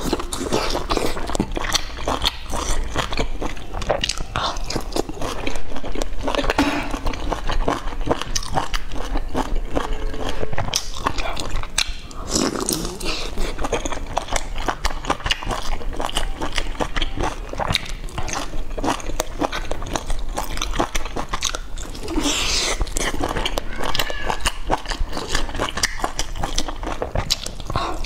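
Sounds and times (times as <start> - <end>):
wet chewing and lip smacking: 0.0 - 28.0.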